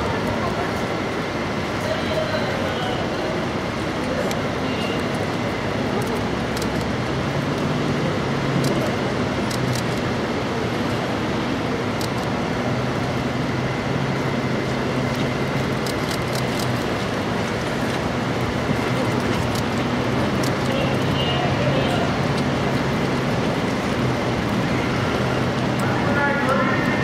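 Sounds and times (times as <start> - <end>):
heavy truck engine running: 0.0 - 27.0.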